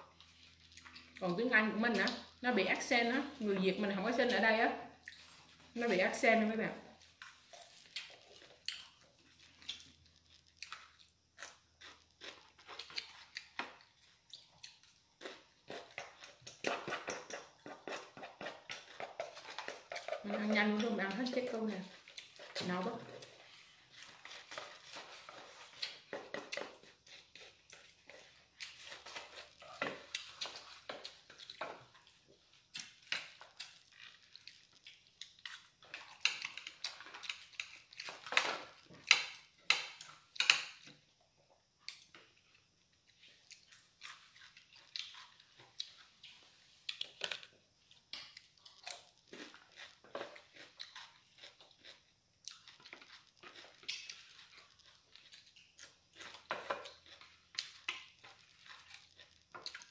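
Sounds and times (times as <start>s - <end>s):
chewing: 0.0s - 2.4s, 4.1s - 6.0s, 6.9s - 40.9s, 41.8s - 59.9s.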